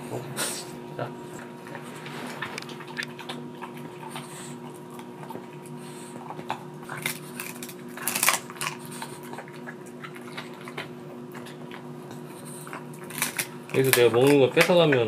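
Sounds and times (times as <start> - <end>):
dog crunching a bone: 1.4 - 15.0.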